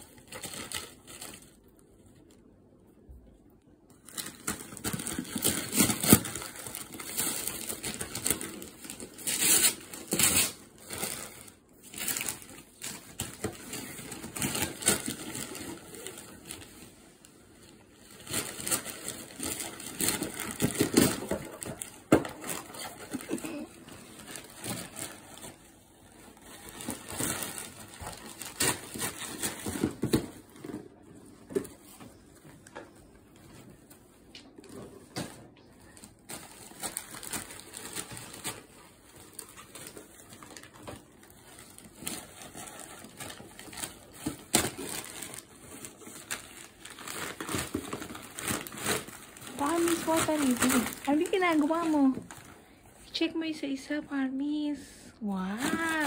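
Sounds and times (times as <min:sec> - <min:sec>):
wrapping paper crinkling: 0:00.0 - 0:02.4, 0:03.9 - 0:53.2, 0:55.5 - 0:56.0.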